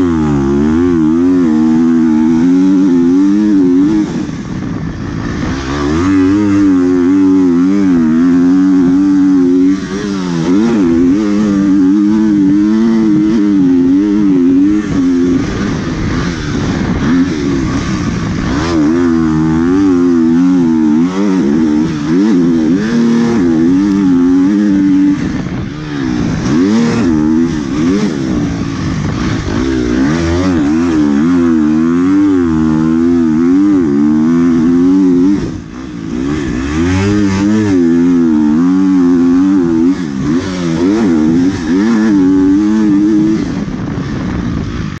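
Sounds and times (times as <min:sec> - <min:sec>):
motorbike engine revving: 0:00.0 - 0:45.0.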